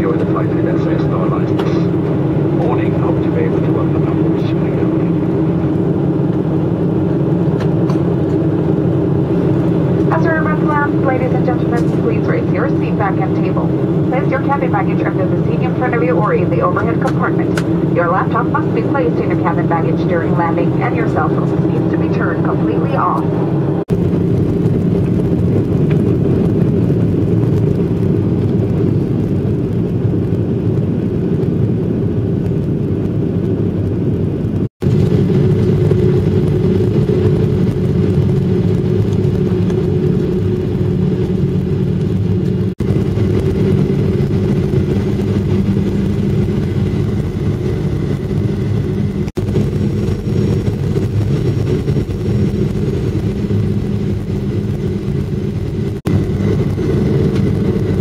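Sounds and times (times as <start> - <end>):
airliner engine rumble in cabin: 0.0 - 58.0.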